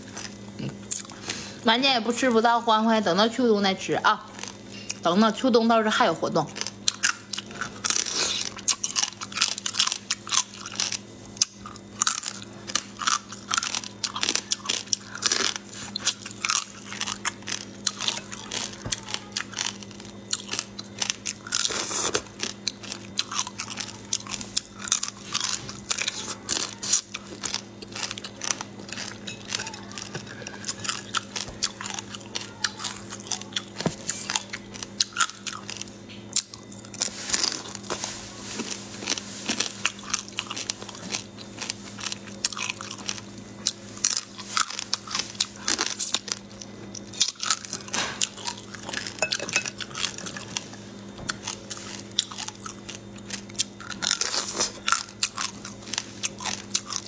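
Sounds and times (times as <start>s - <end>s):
crunching shrimp shells: 6.4s - 57.0s.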